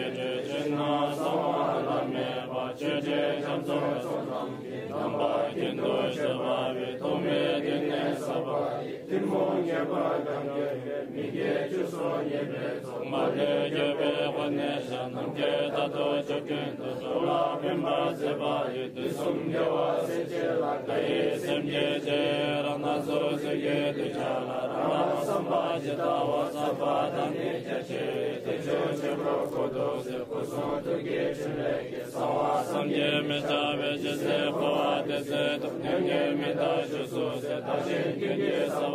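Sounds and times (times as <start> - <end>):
steady chanting: 0.0 - 38.9.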